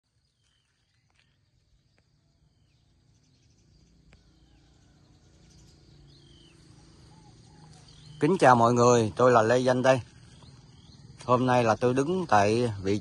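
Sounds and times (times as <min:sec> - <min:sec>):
steady insect drone: 0:00.1 - 0:13.0.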